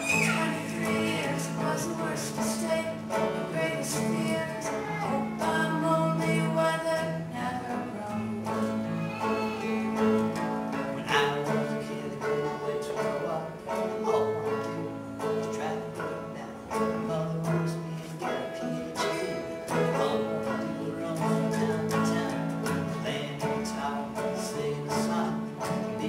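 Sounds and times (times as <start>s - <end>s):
acoustic guitar strummed: 0.0s - 26.0s
banjo plucked: 0.0s - 26.0s.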